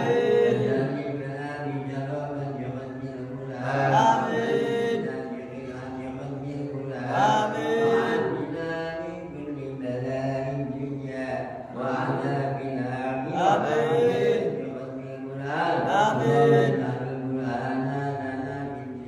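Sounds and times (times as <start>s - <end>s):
man chanting into microphone: 0.0s - 19.0s.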